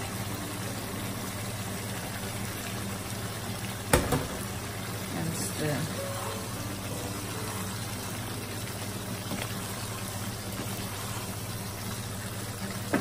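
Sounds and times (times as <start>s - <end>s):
food simmering in a frying pan: 0.0s - 13.0s
low mechanical hum: 0.0s - 13.0s.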